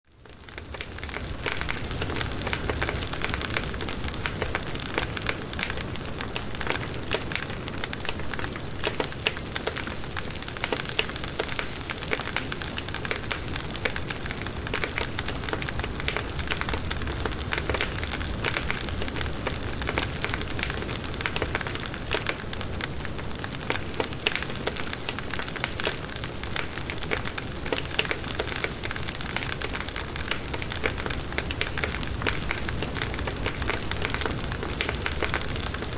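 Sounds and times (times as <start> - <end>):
wood fire crackling: 0.1 - 35.9.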